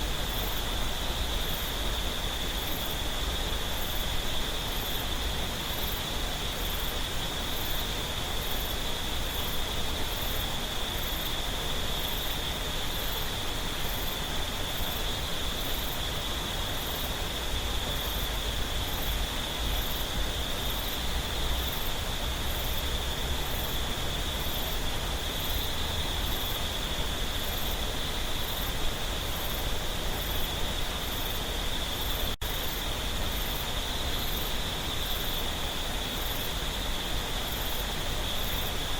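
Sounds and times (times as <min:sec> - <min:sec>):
high faint insect chirp: 0:00.0 - 0:38.9
insect drone: 0:00.0 - 0:38.9
stream water running over rocks: 0:00.0 - 0:38.9.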